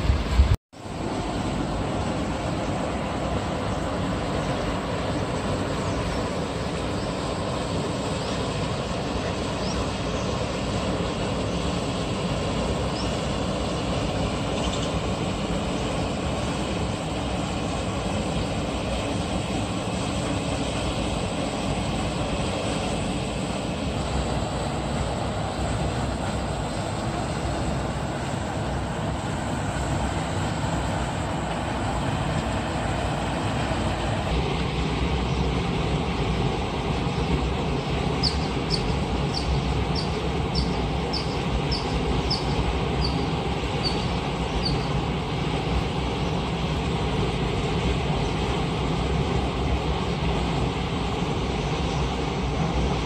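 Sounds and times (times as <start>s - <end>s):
water rushing over weir: 0.0s - 53.0s.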